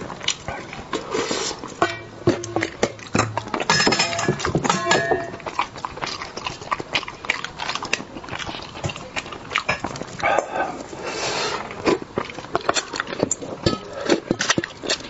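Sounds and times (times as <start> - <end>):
wet chewing: 0.0 - 15.0.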